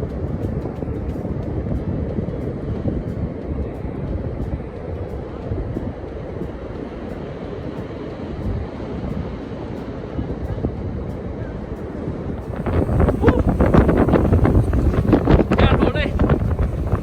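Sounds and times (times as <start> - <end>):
ocean surf rumble: 0.0 - 17.0
wind buffeting microphone: 0.0 - 17.0.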